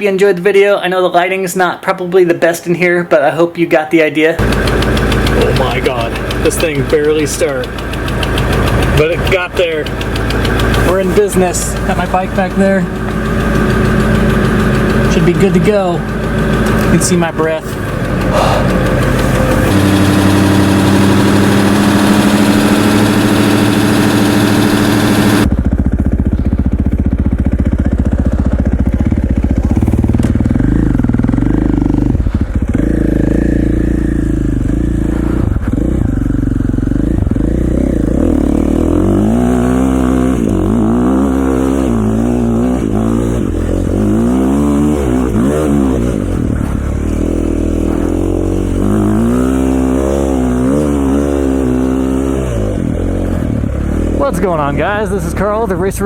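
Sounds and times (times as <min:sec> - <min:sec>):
motorcycle engine revving: 0:04.3 - 0:56.0.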